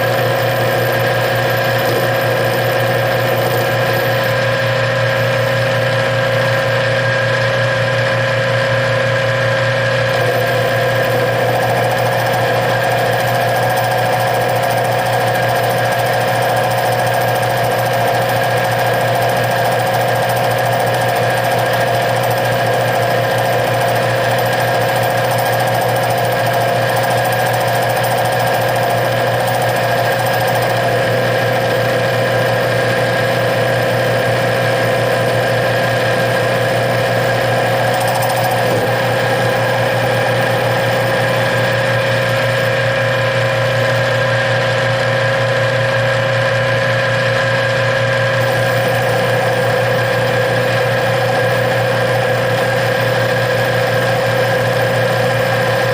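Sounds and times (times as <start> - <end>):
metal lathe running: 0.0 - 55.9.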